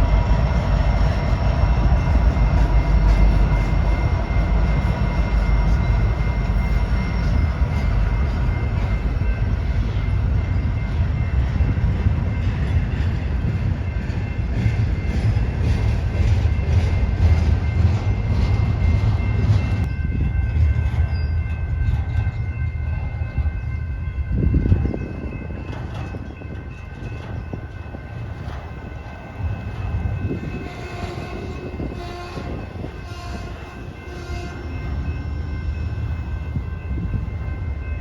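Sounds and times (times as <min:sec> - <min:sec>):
train rumbling by: 0:00.0 - 0:38.0.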